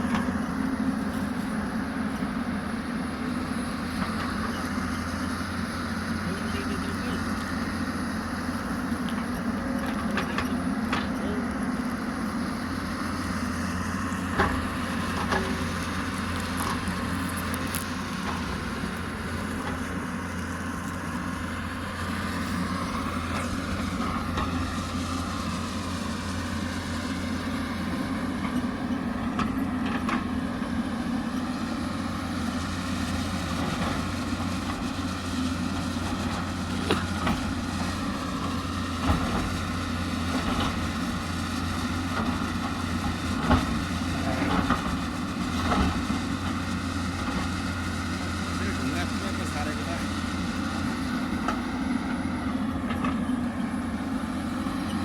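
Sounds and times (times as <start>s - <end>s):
excavator diesel engine running: 0.0s - 55.0s
high engine whine: 0.0s - 55.0s.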